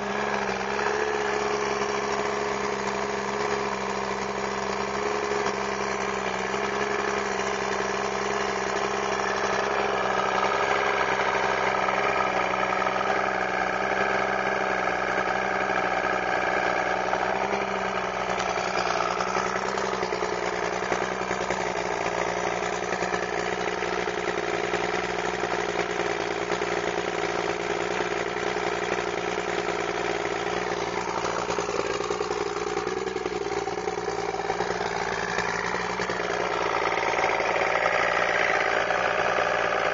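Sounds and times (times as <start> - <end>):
outboard engine idling: 0.0 - 39.9.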